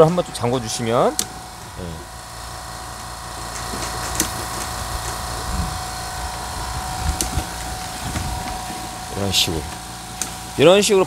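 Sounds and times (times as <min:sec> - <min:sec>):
pipe-flushing rig whine: 0:00.0 - 0:11.0.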